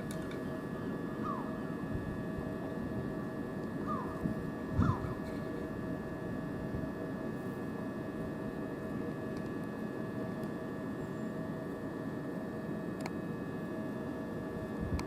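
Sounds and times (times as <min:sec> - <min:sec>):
electric train humming: 0:00.0 - 0:15.0.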